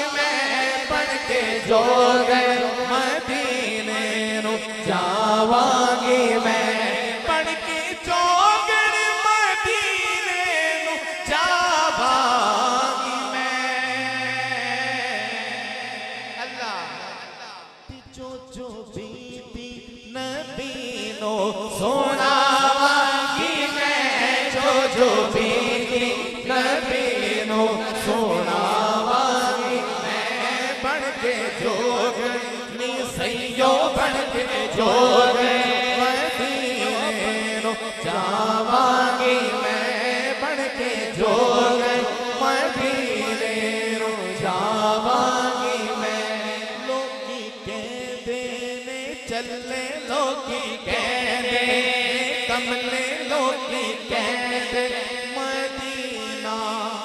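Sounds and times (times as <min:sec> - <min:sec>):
man singing into microphone: 0:00.0 - 0:57.0.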